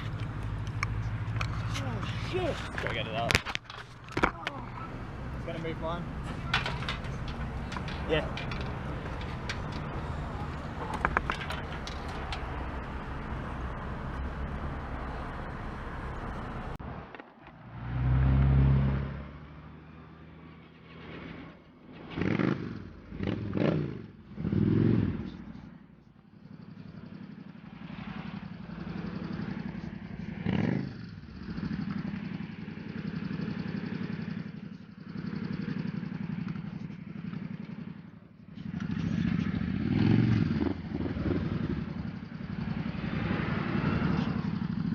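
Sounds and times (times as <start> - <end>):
motorcycle engine revving: 0.0 - 16.8, 18.0 - 44.9
traffic noise: 0.0 - 44.9.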